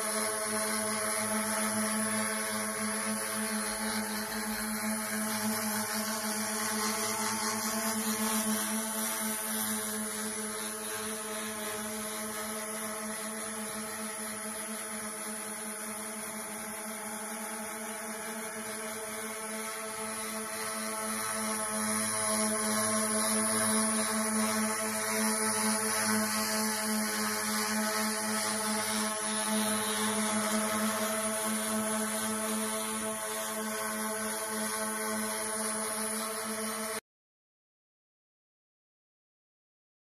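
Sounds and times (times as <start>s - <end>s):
drone propellers buzzing: 0.0s - 36.6s.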